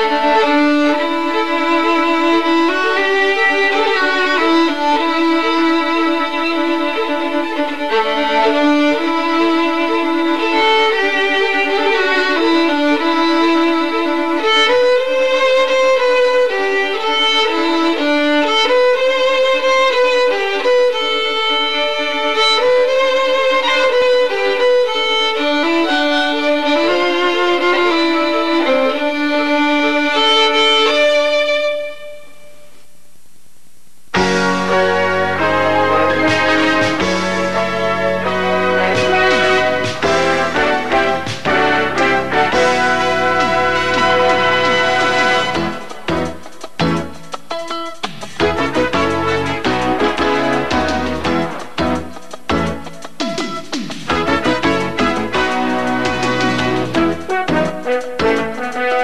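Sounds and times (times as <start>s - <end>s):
instrumental background music: 0.0s - 32.4s, 34.2s - 59.0s.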